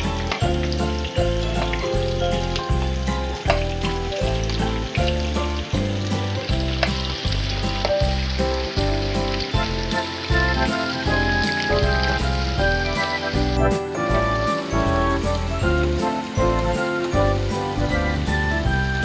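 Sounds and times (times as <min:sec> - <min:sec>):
background music with low beat: 0:00.0 - 0:19.0
onions sizzling in hot oil: 0:00.0 - 0:19.0.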